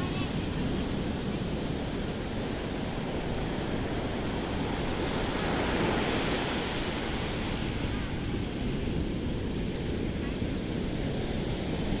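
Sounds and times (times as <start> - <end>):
sea waves washing on beach: 0.0 - 12.0.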